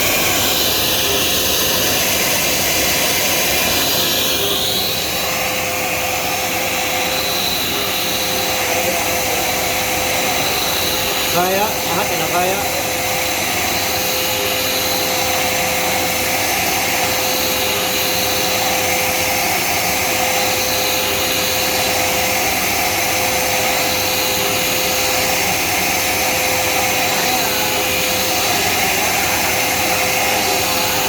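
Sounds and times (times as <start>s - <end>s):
drilling machine motor whir: 0.0s - 31.0s.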